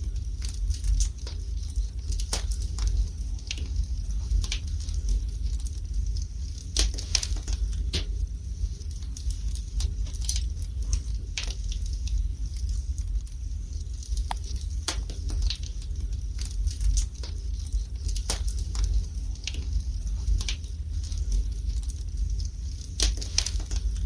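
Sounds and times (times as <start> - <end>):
fire crackling and popping: 0.0 - 24.0
low rumble of fire: 0.0 - 24.0.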